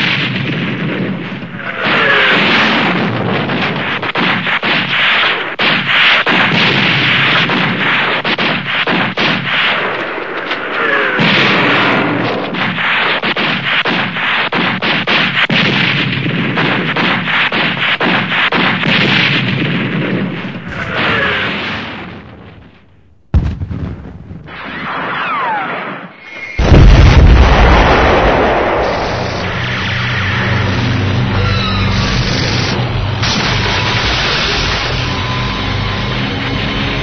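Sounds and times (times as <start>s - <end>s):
gunfire: 0.0s - 30.4s, 32.4s - 36.9s
artillery fire: 0.0s - 37.0s.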